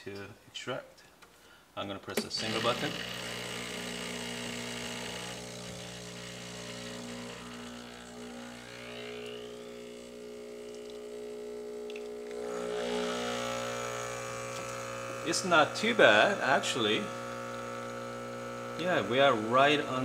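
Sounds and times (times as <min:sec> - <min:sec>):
espresso machine pump buzzing: 0:02.4 - 0:20.0.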